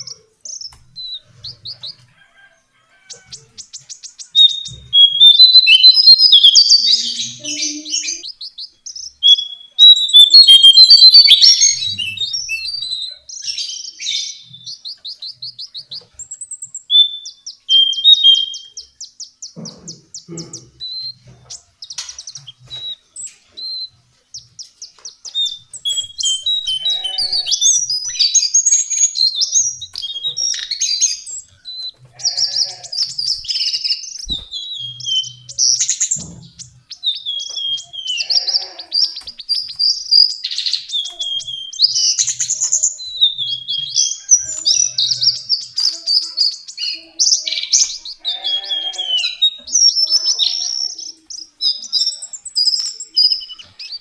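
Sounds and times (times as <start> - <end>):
bird high warbling song: 0.0 - 54.0.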